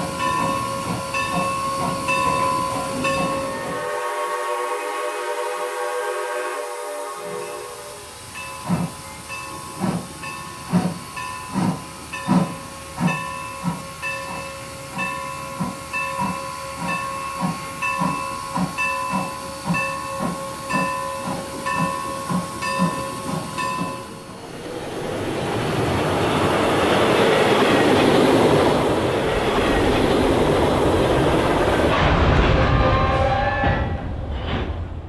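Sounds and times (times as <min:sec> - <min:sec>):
steam hiss: 0:00.0 - 0:32.1
steam locomotive chuffing: 0:00.0 - 0:35.0.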